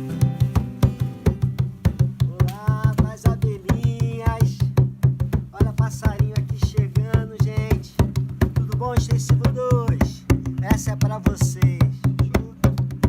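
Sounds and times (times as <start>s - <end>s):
fast percussion beat: 0.0s - 13.0s.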